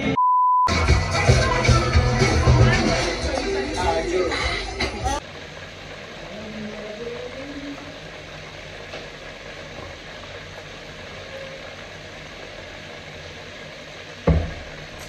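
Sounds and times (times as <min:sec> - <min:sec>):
low mechanical hum: 0:00.8 - 0:15.0.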